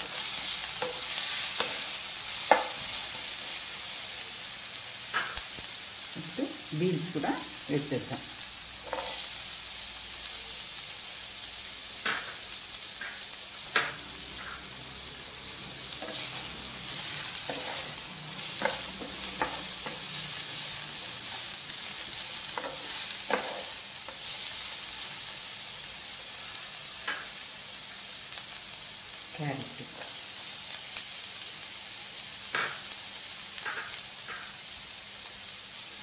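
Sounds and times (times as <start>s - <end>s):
vegetables sizzling in hot oil: 0.0s - 36.0s.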